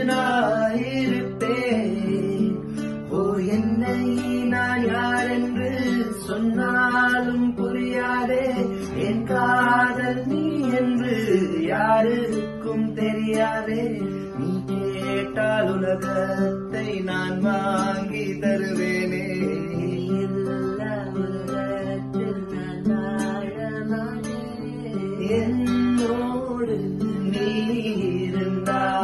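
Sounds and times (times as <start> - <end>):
man and woman singing: 0.0 - 29.0
nylon-string acoustic guitar: 0.0 - 29.0.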